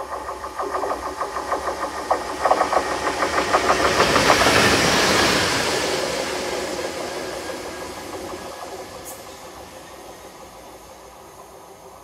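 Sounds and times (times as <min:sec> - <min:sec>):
diesel locomotive passing: 0:00.0 - 0:12.0
wheels clicking over rail joints: 0:00.0 - 0:12.0.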